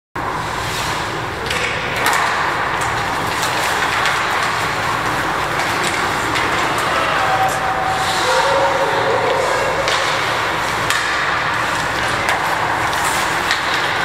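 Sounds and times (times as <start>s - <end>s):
hockey sticks clacking on puck: 0.2s - 14.0s.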